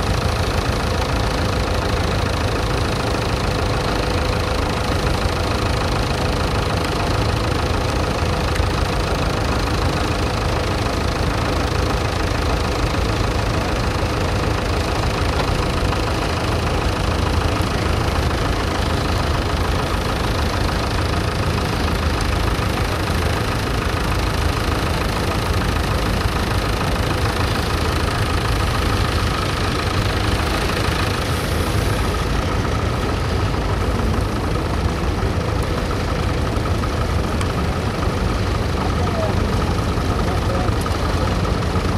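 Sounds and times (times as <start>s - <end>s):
tractor engine rumbling: 0.0s - 41.9s.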